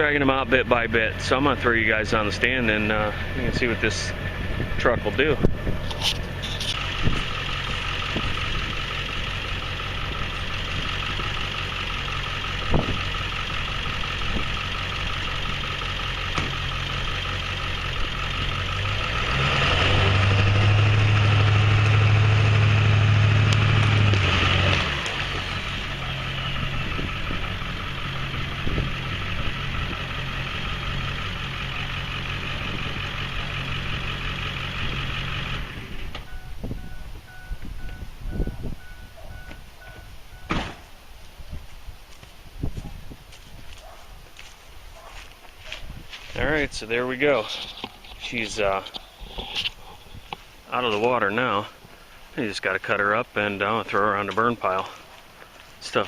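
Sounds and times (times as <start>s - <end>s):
pickup truck engine running: 0.0s - 56.0s.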